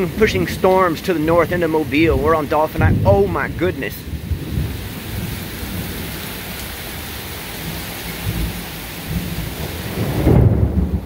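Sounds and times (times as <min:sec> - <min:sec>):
heavy rain: 0:00.0 - 0:11.0
thunder rumbling: 0:00.0 - 0:11.0.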